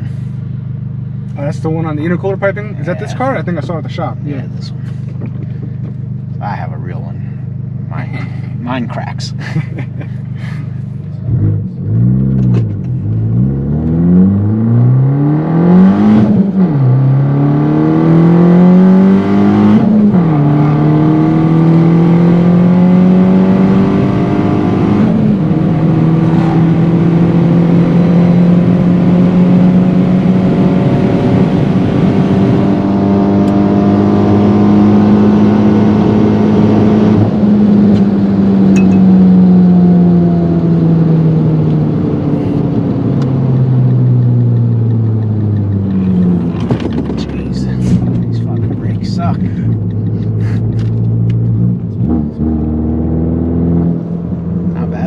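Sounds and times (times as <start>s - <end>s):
car engine accelerating through gears: 9.4s - 55.0s.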